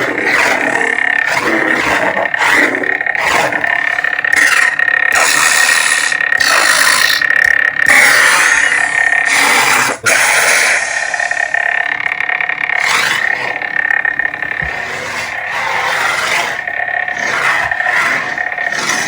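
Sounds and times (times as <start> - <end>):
lightsaber electronic hum: 0.0 - 19.0.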